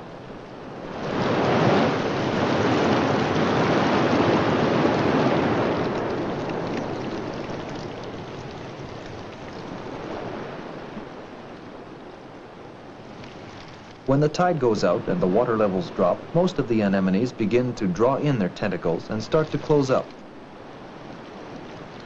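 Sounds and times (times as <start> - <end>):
ocean surf washing in: 0.0 - 22.0.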